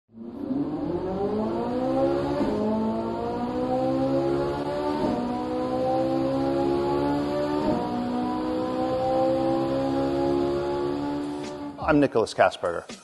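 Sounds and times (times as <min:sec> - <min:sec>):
car engine accelerating hard: 0:00.1 - 0:11.8.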